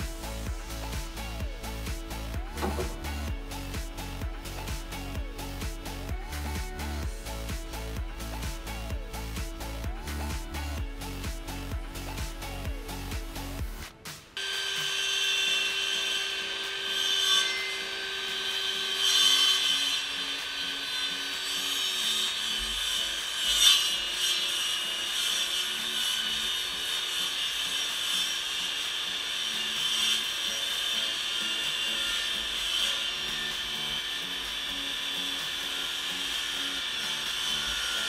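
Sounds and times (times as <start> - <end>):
table saw cutting wood: 0.0 - 13.6, 14.3 - 38.0.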